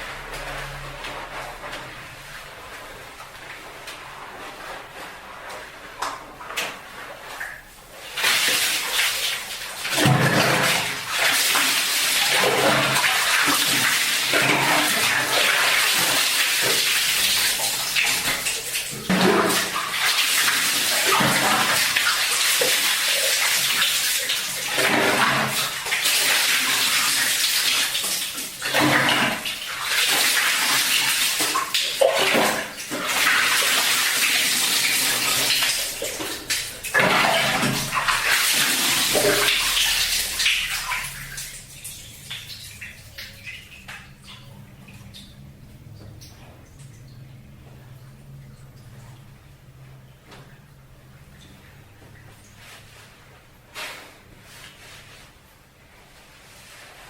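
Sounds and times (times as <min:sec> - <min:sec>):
water poured and splashing: 0:00.0 - 0:57.0.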